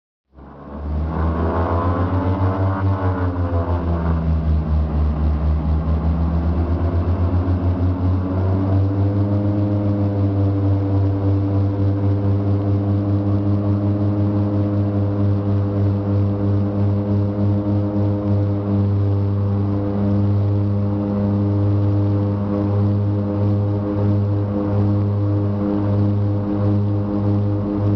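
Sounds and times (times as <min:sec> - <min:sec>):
turboprop engines droning: 0:00.3 - 0:27.9.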